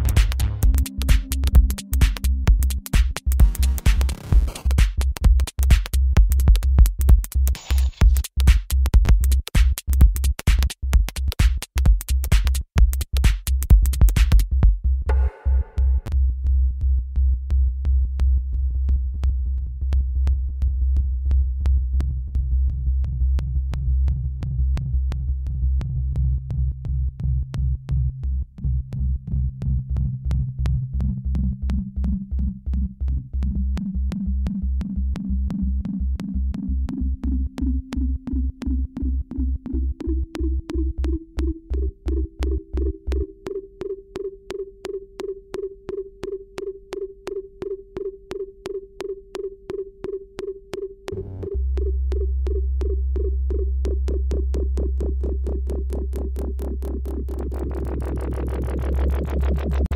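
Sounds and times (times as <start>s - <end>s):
deep bass: 0.0s - 43.4s, 51.1s - 59.9s.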